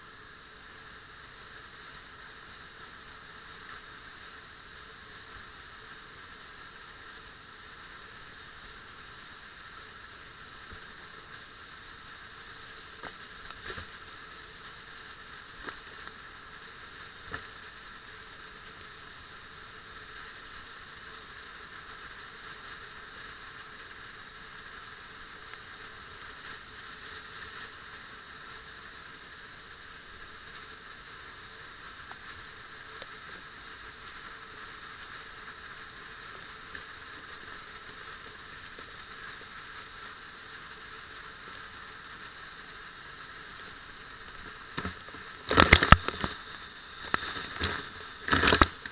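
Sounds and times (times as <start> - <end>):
muffled underground waterfall rushing: 0.0 - 48.9.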